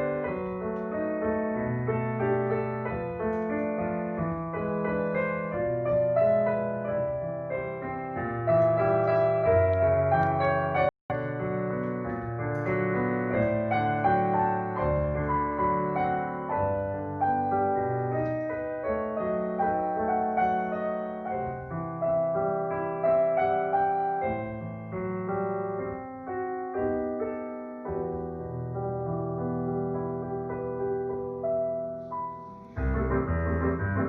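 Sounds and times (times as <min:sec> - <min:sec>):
solo piano piece: 0:00.0 - 0:34.0.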